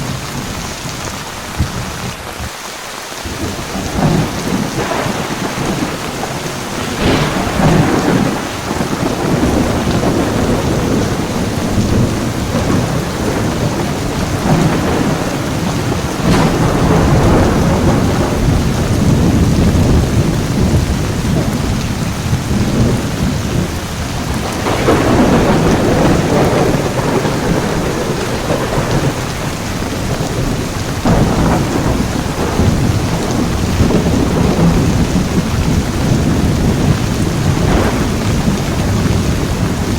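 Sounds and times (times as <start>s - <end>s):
heavy rain pouring: 0.0s - 39.9s
thunder rumbling: 3.2s - 39.9s.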